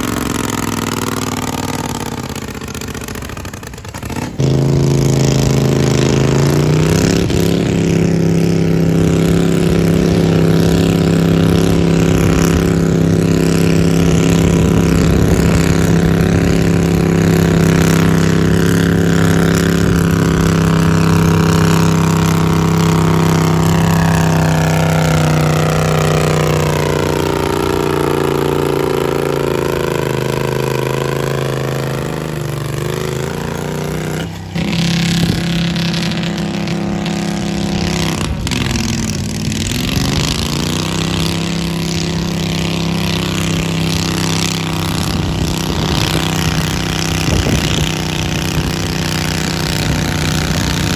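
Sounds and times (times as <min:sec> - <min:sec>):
garden tractor engine under load: 0:00.0 - 0:50.9.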